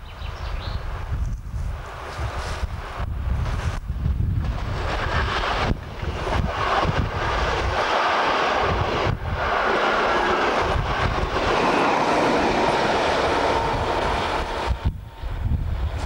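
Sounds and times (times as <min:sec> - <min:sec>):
train wheels rumbling on rails: 0:00.8 - 0:16.0
diesel locomotive passing: 0:01.8 - 0:16.0.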